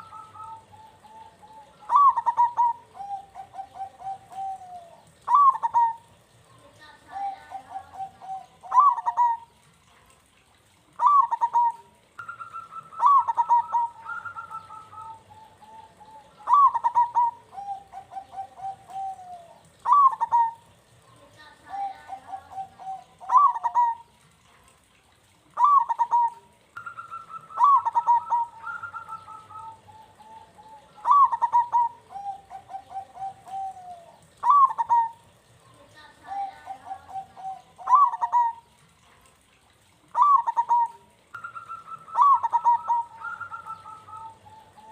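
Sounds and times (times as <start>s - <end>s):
higher-pitched coo: 0.0s - 6.1s, 7.1s - 9.5s, 11.0s - 20.6s, 21.7s - 24.1s, 25.6s - 35.3s, 36.2s - 38.7s, 40.1s - 44.9s
dove cooing: 0.0s - 10.1s, 10.9s - 24.2s, 25.5s - 38.8s, 39.8s - 44.9s.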